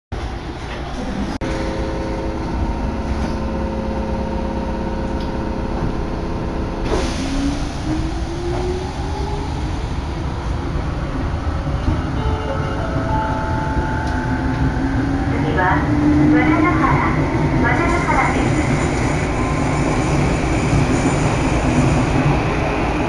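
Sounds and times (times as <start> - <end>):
electric train hum: 0.2 - 23.0.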